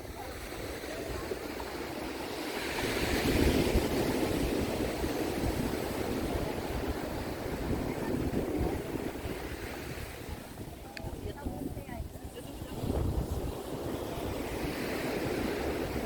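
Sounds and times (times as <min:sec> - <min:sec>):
ocean surf breaking: 0:00.0 - 0:16.0
wind rumbling on microphone: 0:00.0 - 0:16.0.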